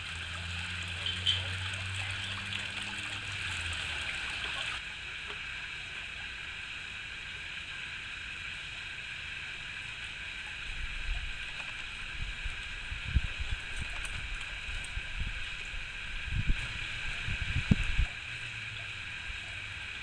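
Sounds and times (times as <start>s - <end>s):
low hum: 0.0s - 20.0s
outdoor background hiss: 0.0s - 20.0s.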